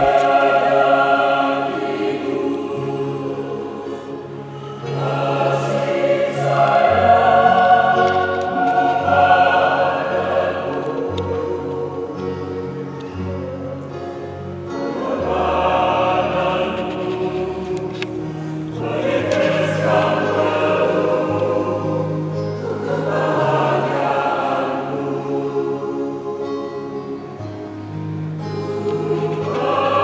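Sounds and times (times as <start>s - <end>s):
choir singing held chords: 0.0s - 30.0s.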